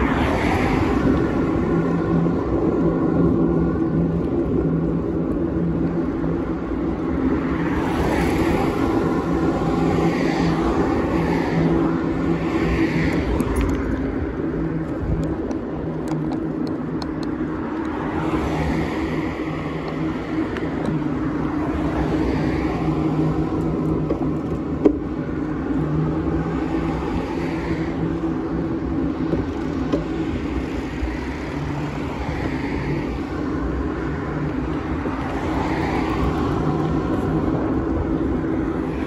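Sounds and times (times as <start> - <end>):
car passing: 0.0 - 39.0
road noise: 0.0 - 39.0
steady droning hum: 0.0 - 39.0
wind rumbling on microphone: 0.0 - 39.0.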